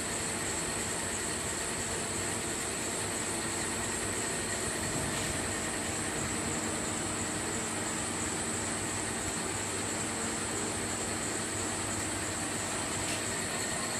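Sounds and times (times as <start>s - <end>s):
machine with high-pitched whine: 0.0s - 13.9s.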